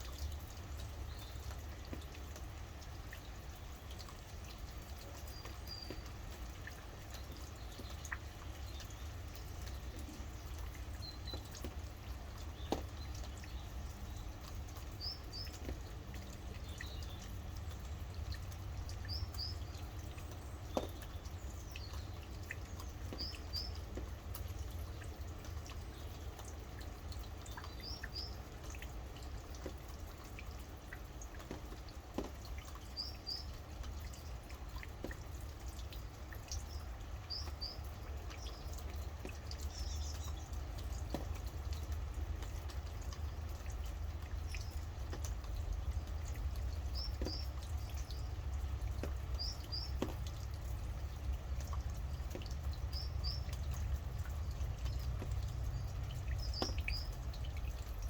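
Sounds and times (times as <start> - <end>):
steady rain dripping: 0.0 - 58.0.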